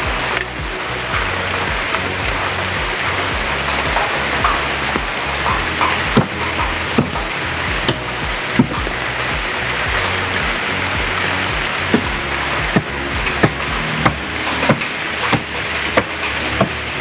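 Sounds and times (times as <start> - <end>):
music with low bass pattern: 0.0 - 17.0
rain-like hiss: 0.0 - 17.0.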